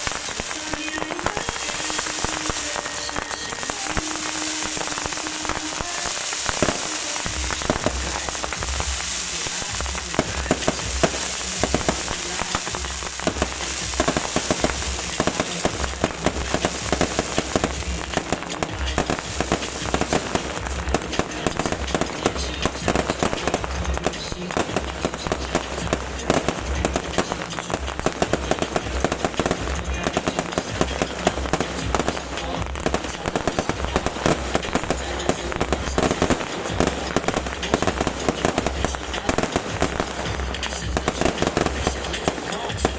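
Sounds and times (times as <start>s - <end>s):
fireworks crackling and whooshing: 0.0s - 42.9s.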